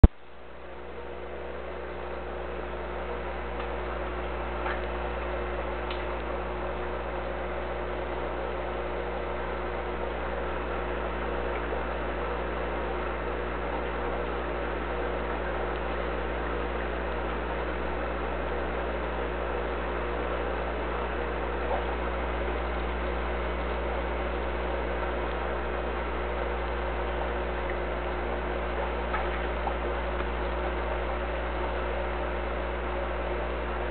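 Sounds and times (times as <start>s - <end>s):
aquarium air pump hum: 0.0s - 33.9s.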